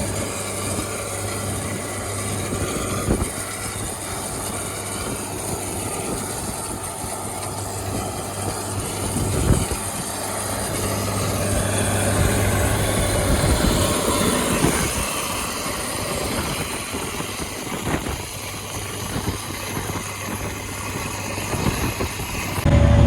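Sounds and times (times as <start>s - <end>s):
broad rushing noise: 0.0s - 23.0s
loud deep engine: 0.0s - 23.0s
tractor engine running: 0.0s - 23.0s.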